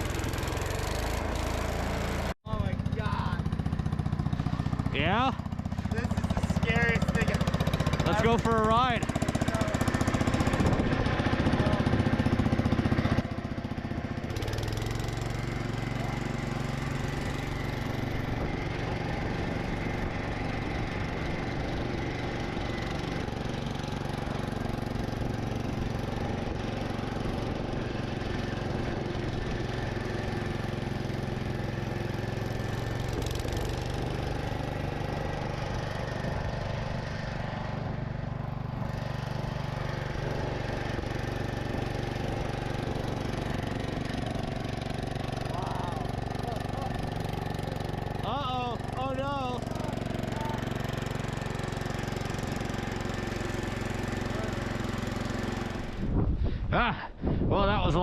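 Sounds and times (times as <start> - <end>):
single-cylinder engine running: 0.0 - 56.6.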